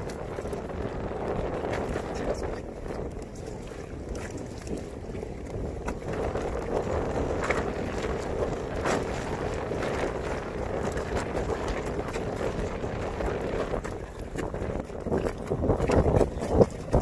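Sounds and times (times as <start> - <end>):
water slapping hull: 0.0 - 17.0
wind buffeting microphone: 0.0 - 17.0.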